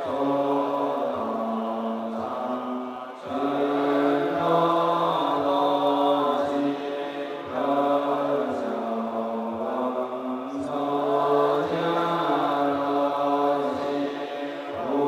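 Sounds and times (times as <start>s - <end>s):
low voices chanting in unison: 0.0s - 15.0s.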